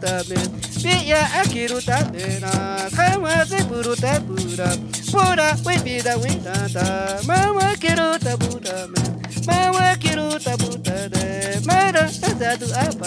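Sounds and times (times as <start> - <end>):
drum struck with stick: 0.0 - 13.0
maracas shaking: 0.0 - 13.0
metal shaker: 0.0 - 13.0.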